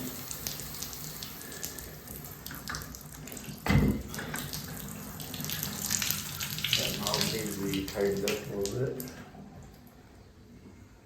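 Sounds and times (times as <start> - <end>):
faucet running water: 0.0 - 10.0.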